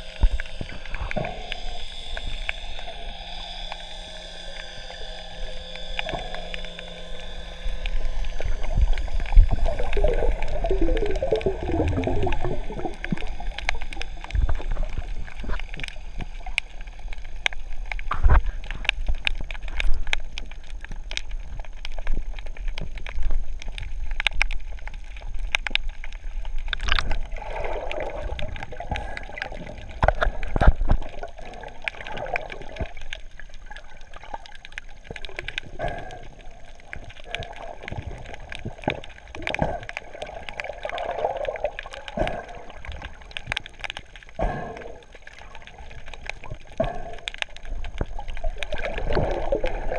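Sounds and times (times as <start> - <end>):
underwater bubbles gurgling: 0.0 - 49.9.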